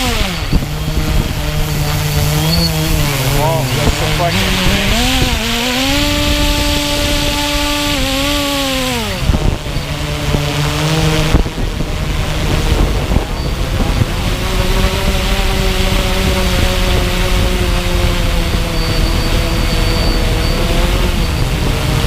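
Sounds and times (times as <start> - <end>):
motor humming: 0.0 - 22.0
wind buffeting microphone: 0.0 - 22.0.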